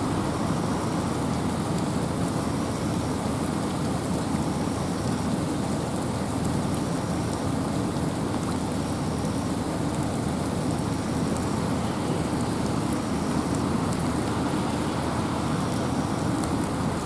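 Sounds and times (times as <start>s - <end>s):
steady rain: 0.0s - 17.0s
wind: 0.0s - 17.0s.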